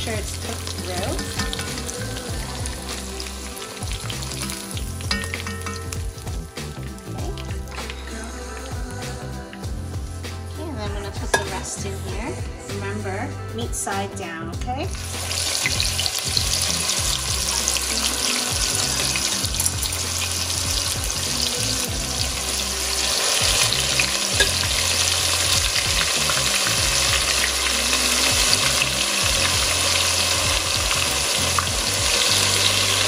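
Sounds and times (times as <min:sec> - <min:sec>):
meat sizzling in hot oil: 0:00.0 - 0:10.5, 0:14.9 - 0:33.0.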